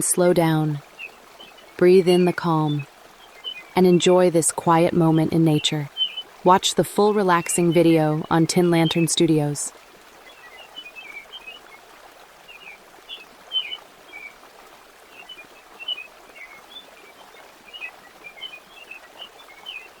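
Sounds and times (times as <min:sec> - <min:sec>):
flowing stream: 0:00.0 - 0:20.0
small birds chirping: 0:00.0 - 0:20.0.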